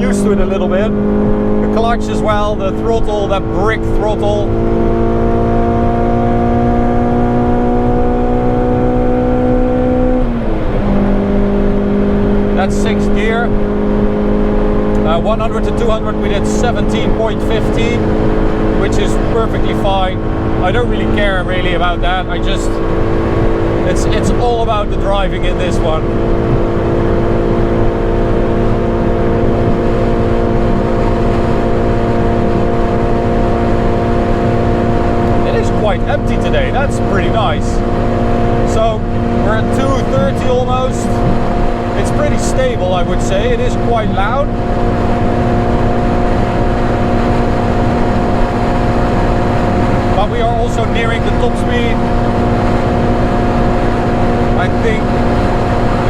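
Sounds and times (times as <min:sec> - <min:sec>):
car engine accelerating: 0:00.0 - 0:56.0
gear change: 0:00.0 - 0:56.0.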